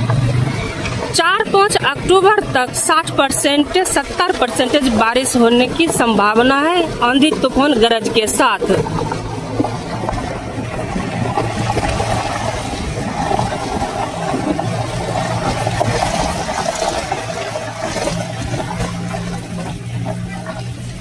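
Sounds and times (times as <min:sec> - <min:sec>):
engine hum: 0:00.0 - 0:21.0
water swishing under wheels: 0:00.0 - 0:21.0.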